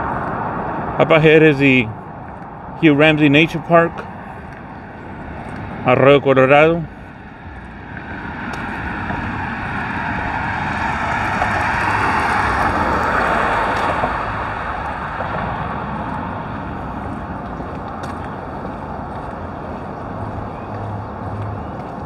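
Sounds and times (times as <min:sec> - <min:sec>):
car driving past: 0:00.0 - 0:22.0
low traffic rumble: 0:00.0 - 0:22.0.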